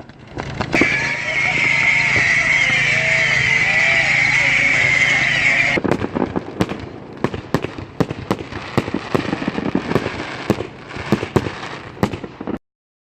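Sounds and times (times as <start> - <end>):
fireworks bangs: 0.0 - 12.6
fireworks crackling: 0.0 - 12.6.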